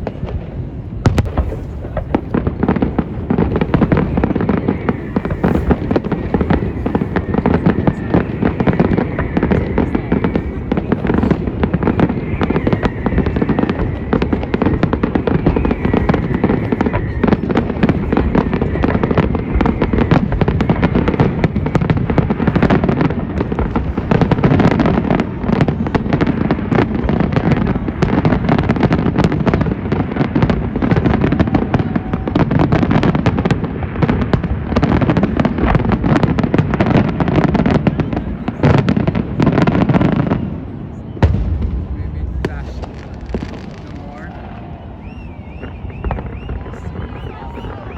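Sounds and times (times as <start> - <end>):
fireworks exploding: 0.0 - 47.9.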